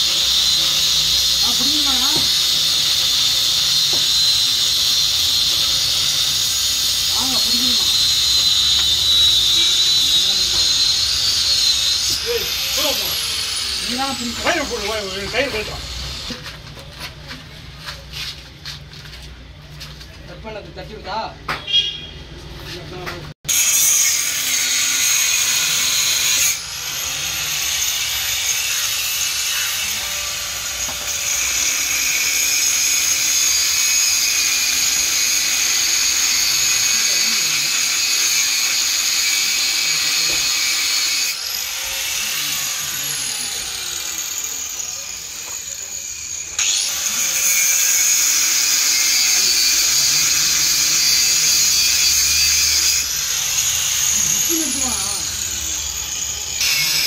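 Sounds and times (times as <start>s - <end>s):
electric power tool whining: 0.0s - 16.5s, 24.8s - 57.0s.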